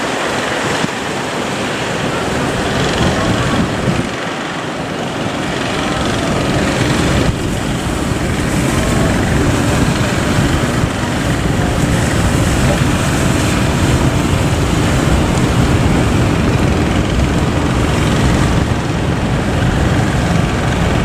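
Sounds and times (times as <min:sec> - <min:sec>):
boat motors running: 0:00.0 - 0:21.0
surf: 0:00.0 - 0:21.0
wind noise on microphone: 0:00.0 - 0:21.0.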